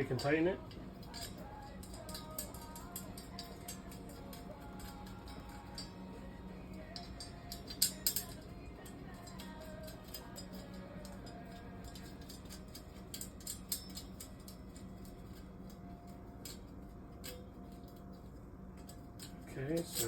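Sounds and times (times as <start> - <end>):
low steady hum: 0.0 - 20.0
metal shelving parts clinking: 0.0 - 20.0.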